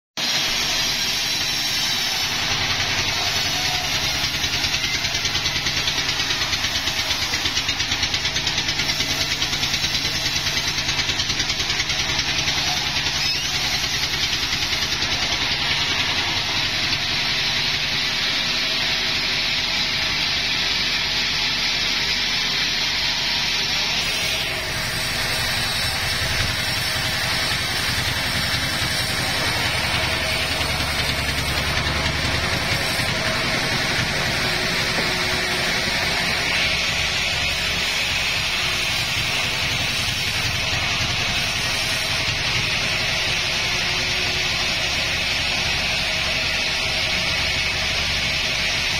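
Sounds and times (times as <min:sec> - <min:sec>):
sawmill machinery droning: 0:00.2 - 0:48.9.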